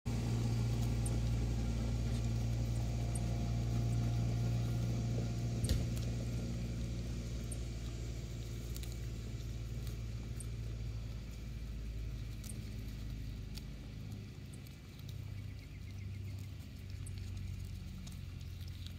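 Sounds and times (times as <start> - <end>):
low mechanical hum: 0.1 - 18.9.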